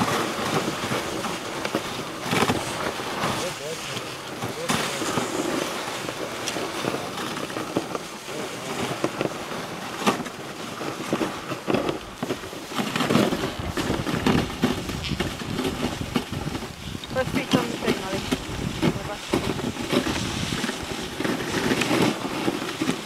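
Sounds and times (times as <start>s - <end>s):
sled knocking and rattling: 0.0s - 23.0s
sled runners scraping over snow: 0.0s - 23.0s
wind on microphone: 0.0s - 23.0s.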